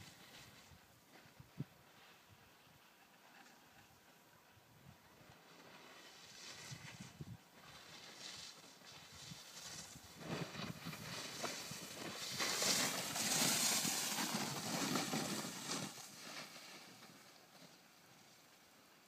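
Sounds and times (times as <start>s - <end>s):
snowboard scraping over snow: 0.0s - 4.3s, 5.0s - 18.7s.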